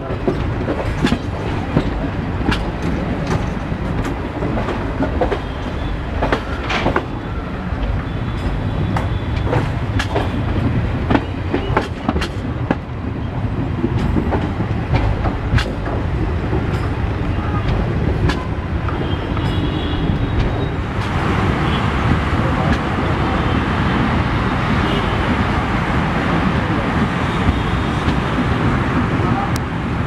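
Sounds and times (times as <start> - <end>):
train wheels rumbling: 0.0 - 30.0
wheels clicking over rail joints: 0.0 - 30.0.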